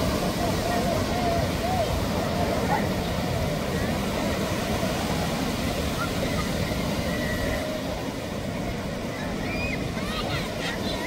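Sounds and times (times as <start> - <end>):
surf breaking on a beach: 0.0 - 11.0.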